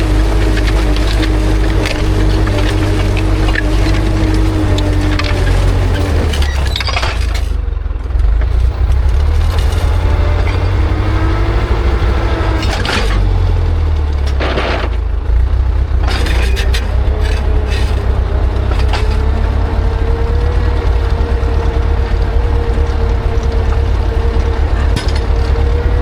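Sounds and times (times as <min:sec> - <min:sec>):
harrow discs crunching soil: 0:00.0 - 0:07.7, 0:08.3 - 0:26.0
tractor diesel engine running: 0:00.0 - 0:26.0.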